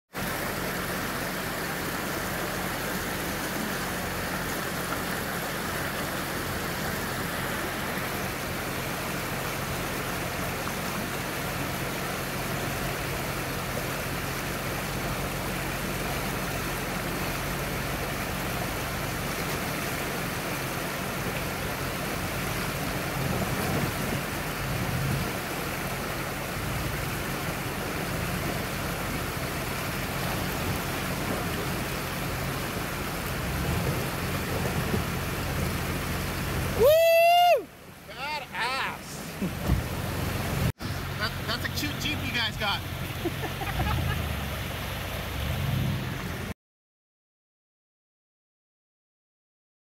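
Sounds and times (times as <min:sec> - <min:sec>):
rushing river water: 0:00.1 - 0:46.6
vehicle engine hum: 0:00.1 - 0:46.6.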